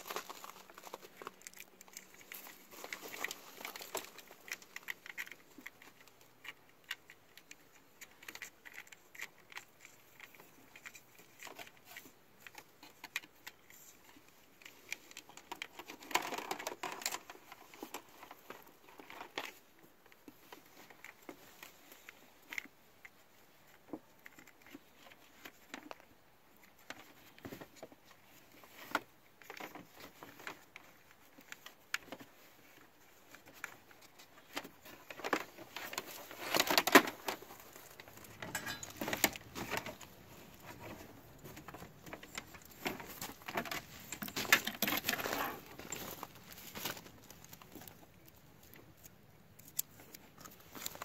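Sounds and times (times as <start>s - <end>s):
rustling and crunching: 0.0s - 51.0s.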